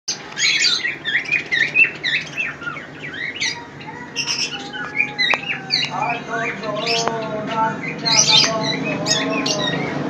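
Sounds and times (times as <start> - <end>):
caged birds chirping: 0.1 - 10.0.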